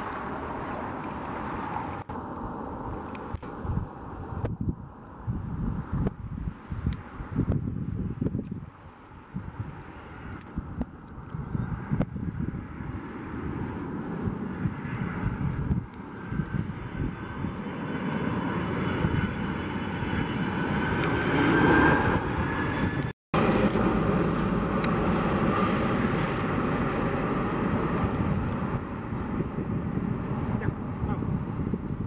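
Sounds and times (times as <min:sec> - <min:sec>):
jet engines rumbling and whining: 0:00.0 - 0:32.0.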